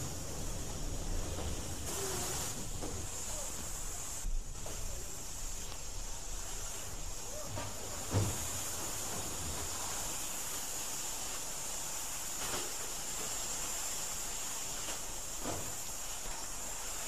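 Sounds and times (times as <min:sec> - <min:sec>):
steam hissing from a locomotive: 0:00.0 - 0:17.0.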